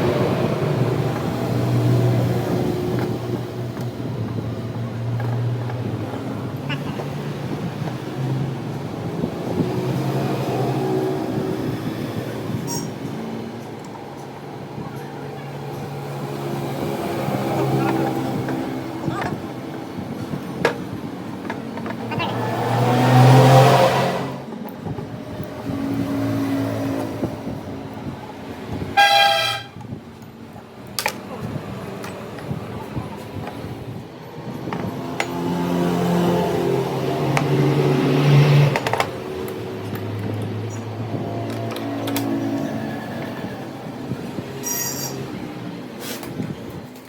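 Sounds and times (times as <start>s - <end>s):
engine humming: 0.0s - 47.0s.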